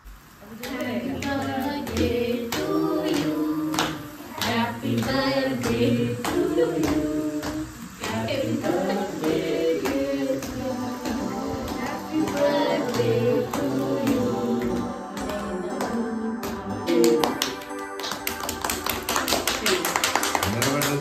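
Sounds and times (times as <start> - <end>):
people singing together: 0.2 - 20.6
people clapping in time: 0.6 - 21.0.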